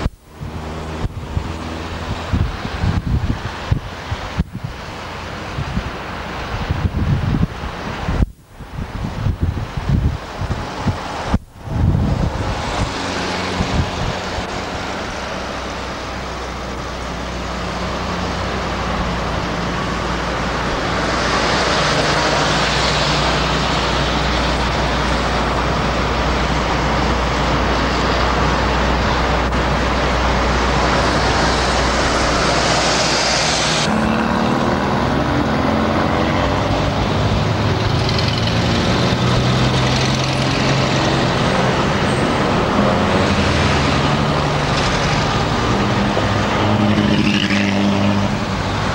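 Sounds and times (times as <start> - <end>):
low engine hum: 0.0 - 48.9
road noise hiss: 0.0 - 48.9.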